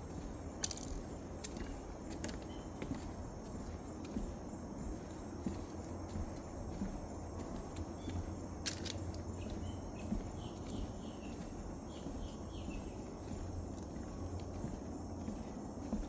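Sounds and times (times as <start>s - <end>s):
footsteps on a path: 0.0s - 16.0s.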